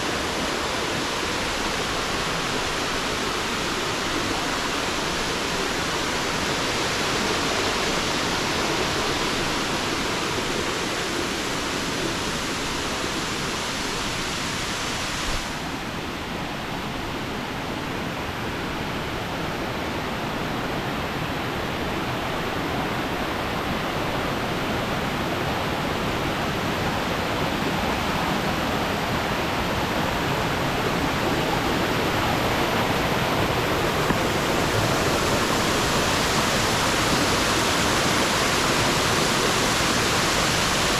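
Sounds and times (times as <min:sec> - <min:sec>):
waterfall rushing: 0:00.0 - 0:16.2, 0:16.9 - 0:40.9.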